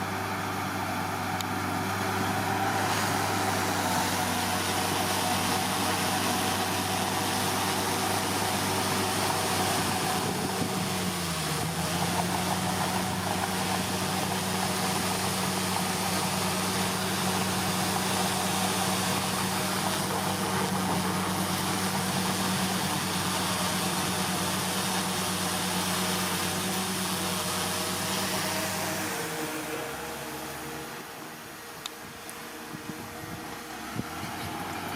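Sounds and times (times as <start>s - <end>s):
bulldozer diesel engine revving: 0.0s - 34.9s.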